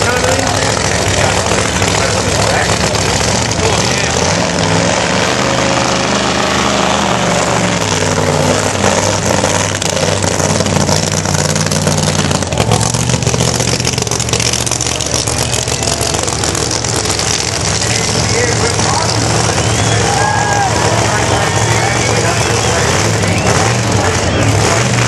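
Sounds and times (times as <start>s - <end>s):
car engine revving hard: 0.0s - 25.0s.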